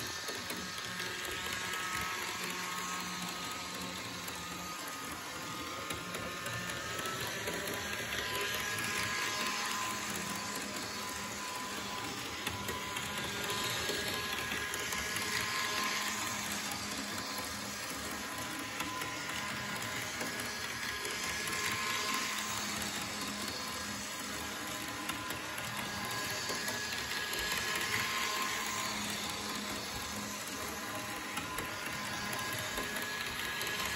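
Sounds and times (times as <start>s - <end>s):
model train motor whirring: 0.0s - 33.9s.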